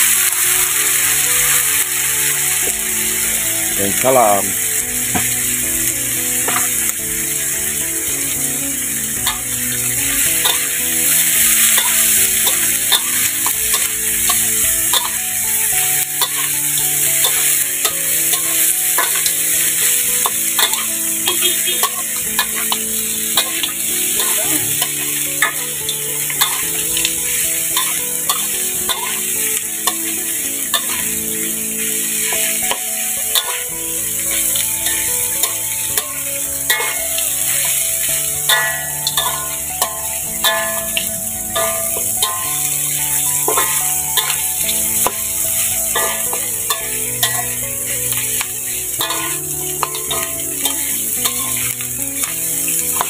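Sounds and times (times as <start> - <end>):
meat sizzling in hot oil: 0.0 - 53.0
metal spatula scraping a wok: 10.1 - 53.0.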